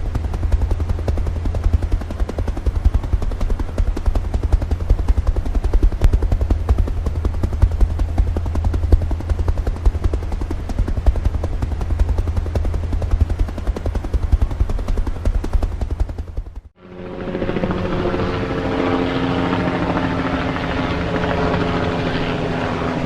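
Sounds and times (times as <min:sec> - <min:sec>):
helicopter rotor chop: 0:00.0 - 0:23.0.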